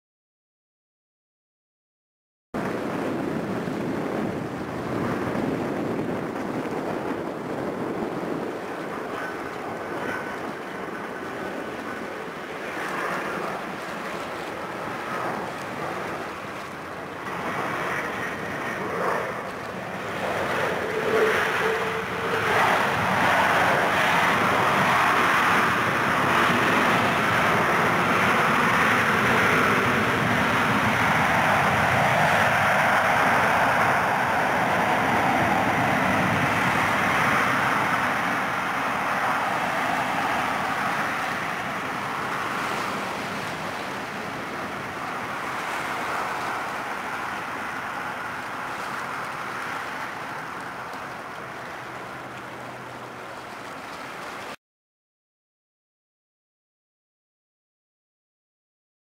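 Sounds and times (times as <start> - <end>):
jet engines roaring: 2.6 - 53.7
wind on microphone: 2.6 - 54.6.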